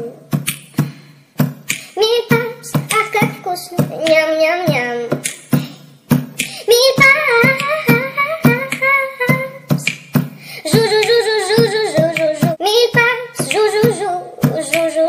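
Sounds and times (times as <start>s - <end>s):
quick steady beat: 0.2s - 15.0s.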